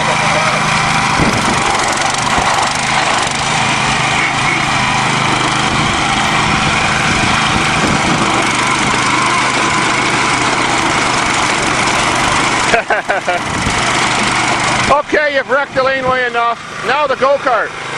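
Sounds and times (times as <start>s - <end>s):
small tractor engine running: 0.0s - 17.9s.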